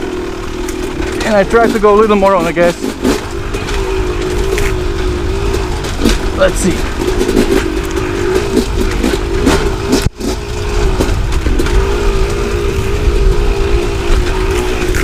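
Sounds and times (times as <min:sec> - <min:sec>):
dirt bike engine running: 0:00.0 - 0:15.0
wind rumble on microphone: 0:00.0 - 0:15.0.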